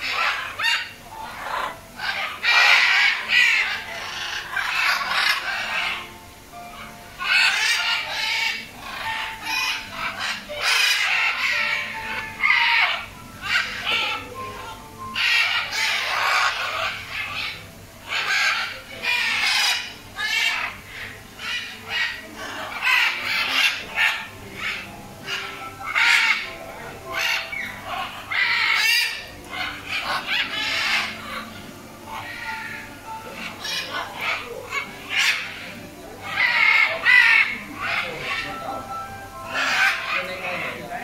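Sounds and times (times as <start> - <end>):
macaws squawking: 0.0 - 41.0.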